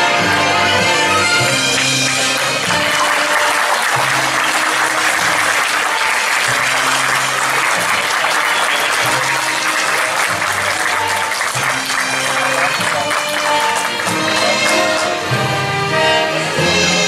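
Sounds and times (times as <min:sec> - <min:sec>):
audience applauding: 0:00.1 - 0:15.5.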